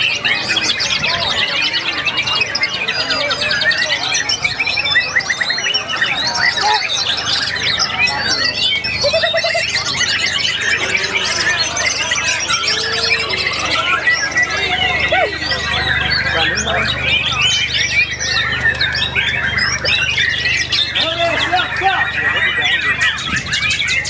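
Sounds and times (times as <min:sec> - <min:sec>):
many birds singing: 0:00.0 - 0:24.0.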